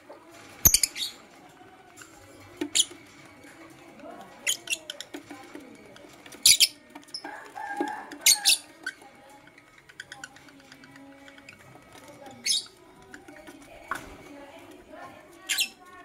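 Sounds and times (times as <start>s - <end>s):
lovebirds chirping: 1.9s - 16.0s.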